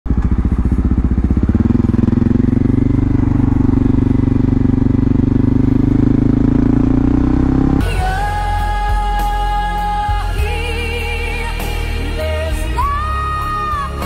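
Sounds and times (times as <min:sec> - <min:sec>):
motorcycle engine pulsing: 0:00.1 - 0:11.4.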